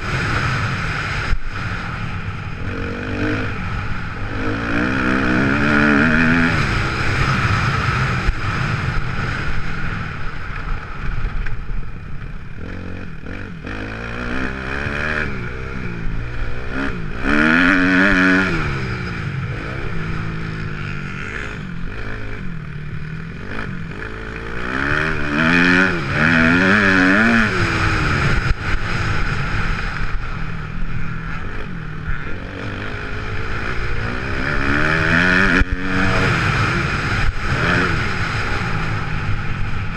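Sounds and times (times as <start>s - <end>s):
motocross bike engine revving: 0.0s - 10.2s, 12.5s - 39.9s.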